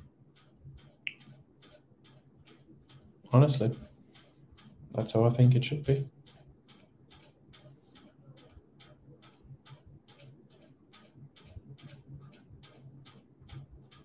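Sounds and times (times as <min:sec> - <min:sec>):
faint steady ticking: 0:00.0 - 0:14.0.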